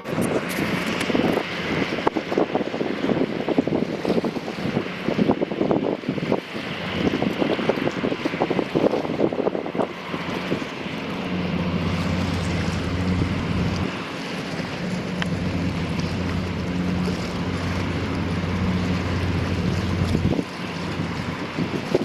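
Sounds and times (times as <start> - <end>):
low machinery hum: 0.0 - 22.0
wind buffeting microphone: 0.0 - 22.0.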